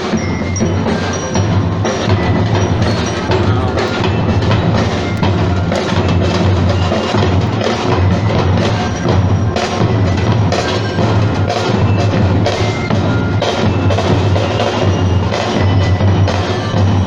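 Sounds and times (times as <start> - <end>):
bass and snare drums marching beat: 0.0 - 17.0
bell melody: 0.0 - 17.0.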